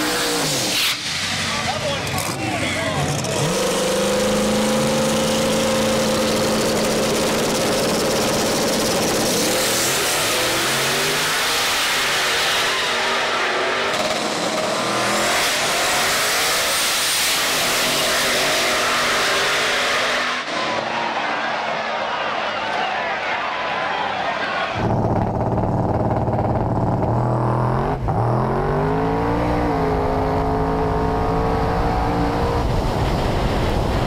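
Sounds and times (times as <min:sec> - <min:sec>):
truck engine revving: 0:00.0 - 0:22.5, 0:24.4 - 0:34.0.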